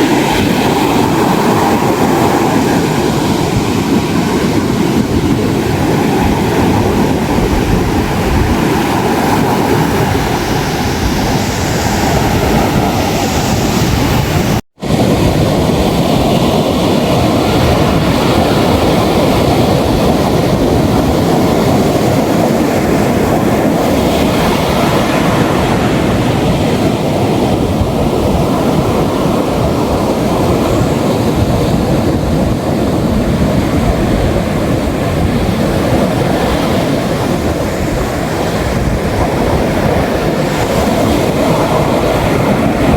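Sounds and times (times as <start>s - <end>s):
ocean surf breaking on a beach: 0.0s - 42.9s.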